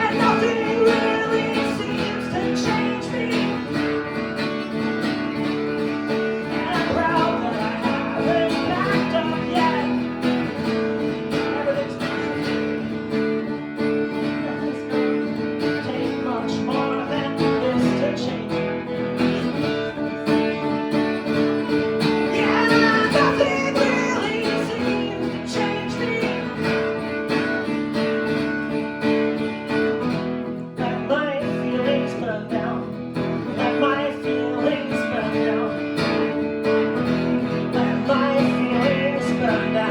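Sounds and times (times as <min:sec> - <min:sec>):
guitar chords: 0:00.0 - 0:39.9
wavering lead guitar line: 0:00.0 - 0:39.9.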